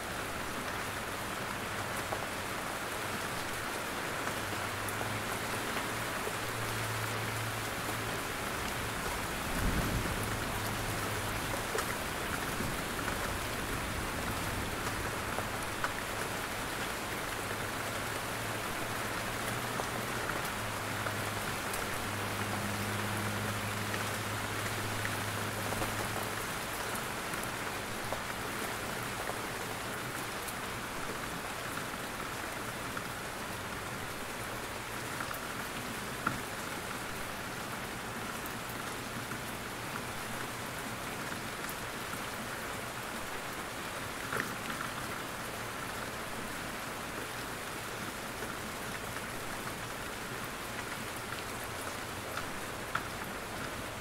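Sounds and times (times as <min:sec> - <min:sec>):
rain in a forest: 0:00.0 - 0:54.0.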